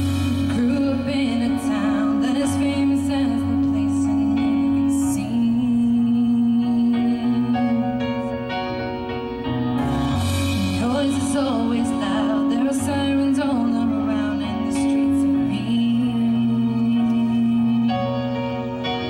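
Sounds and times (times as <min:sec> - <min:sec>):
woman singing into a microphone: 0:00.0 - 0:08.6, 0:09.8 - 0:19.0
backing music: 0:00.0 - 0:19.0.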